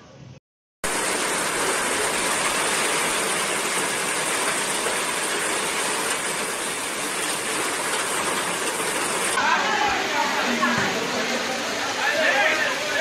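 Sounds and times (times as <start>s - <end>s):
torrential rain pouring: 0.8s - 13.0s.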